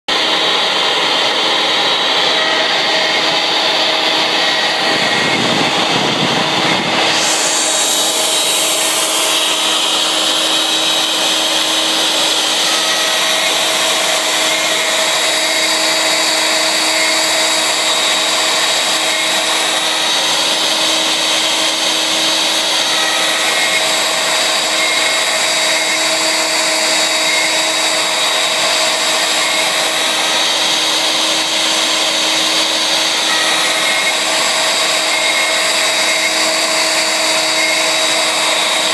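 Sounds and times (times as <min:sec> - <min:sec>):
router spindle carving wood: 0:00.1 - 0:38.9.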